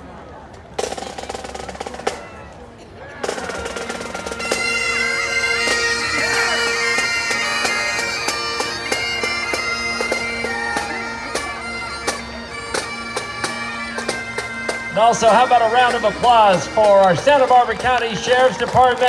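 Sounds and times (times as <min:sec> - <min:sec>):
bagpipes playing melody: 0:03.2 - 0:19.0
drums striking a beat: 0:03.2 - 0:19.0.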